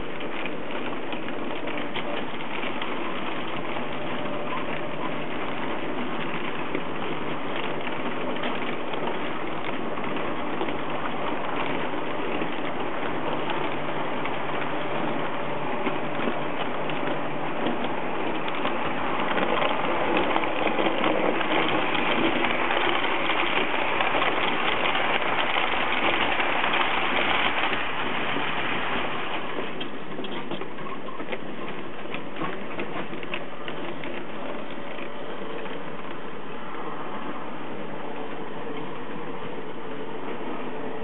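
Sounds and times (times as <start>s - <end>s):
model train wheels clattering on rails: 0.0s - 41.0s.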